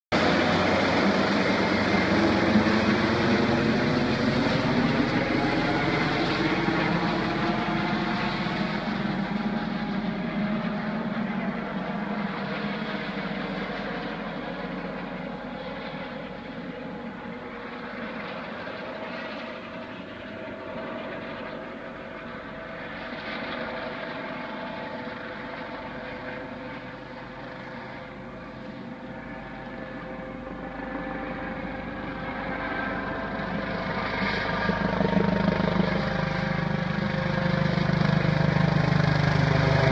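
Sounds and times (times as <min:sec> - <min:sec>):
helicopter rotor and engine: 0:00.1 - 0:39.9.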